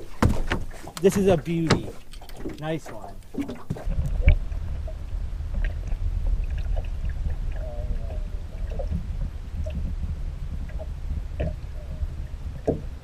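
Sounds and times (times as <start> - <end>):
underwater low rumble: 0.0 - 13.0.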